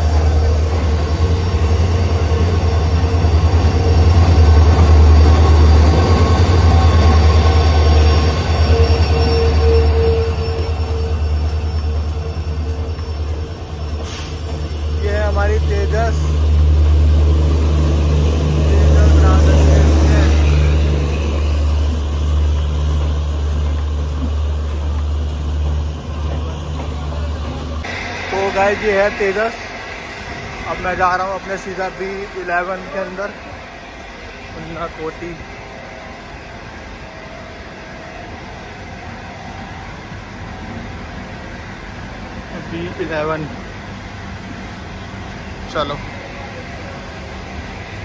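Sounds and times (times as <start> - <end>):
diesel locomotive engine drone: 0.0 - 48.0
train wheel squeal: 0.0 - 48.0.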